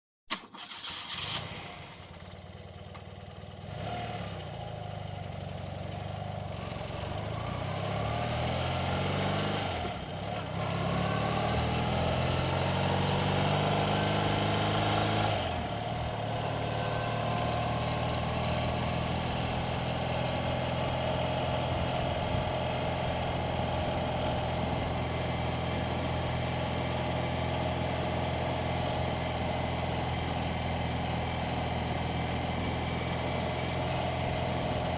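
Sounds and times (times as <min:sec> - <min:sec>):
motorcycle engine starting and revving: 0:00.3 - 0:34.9.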